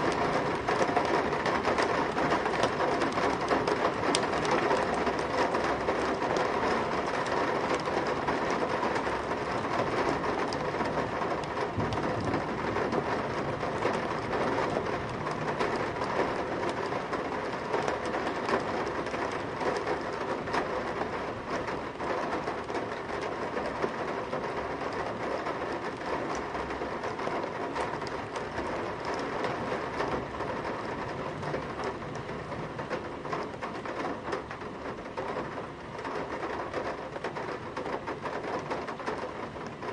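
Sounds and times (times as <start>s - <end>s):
heavy rain on a metal sill: 0.0s - 39.9s.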